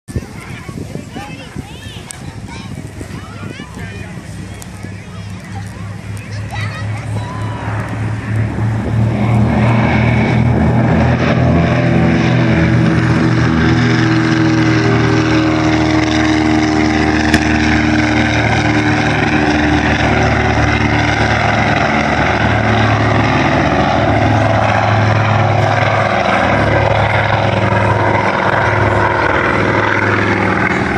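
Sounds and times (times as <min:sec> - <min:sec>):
propeller aircraft engines drone: 0:00.1 - 0:30.9.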